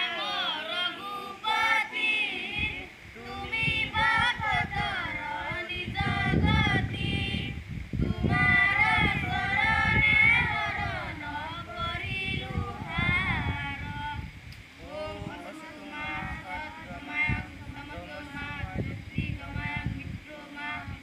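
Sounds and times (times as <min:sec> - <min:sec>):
children singing together: 0:00.0 - 0:14.2, 0:14.8 - 0:21.0.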